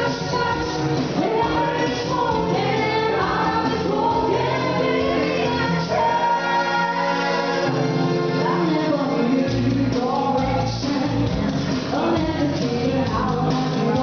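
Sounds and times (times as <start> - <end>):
band playing: 0.0 - 14.0
people singing: 0.0 - 14.0.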